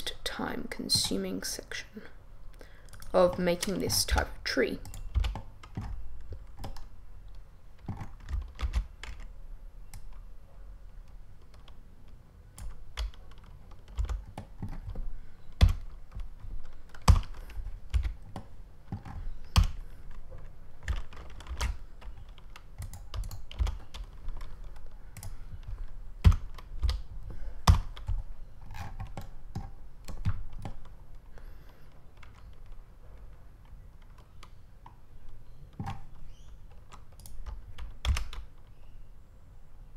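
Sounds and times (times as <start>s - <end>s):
keyboard keys tapping: 2.9s - 9.3s, 10.9s - 31.2s, 31.8s - 38.7s.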